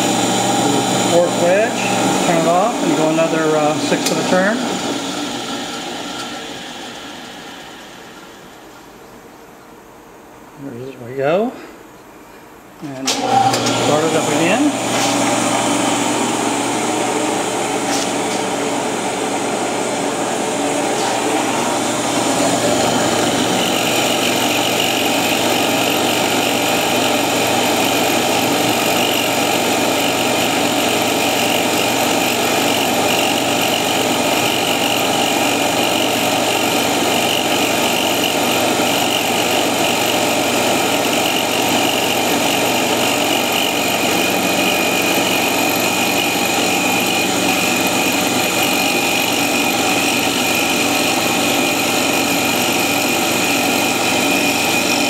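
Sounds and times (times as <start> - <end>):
milling machine cutting aluminium: 0.0 - 8.6, 13.1 - 18.7, 20.7 - 55.0.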